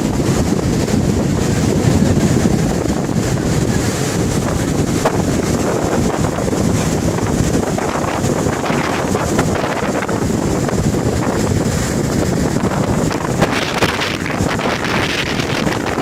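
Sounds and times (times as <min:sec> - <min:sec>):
rushing floodwater: 0:00.0 - 0:16.0
wind buffeting microphone: 0:00.0 - 0:16.0.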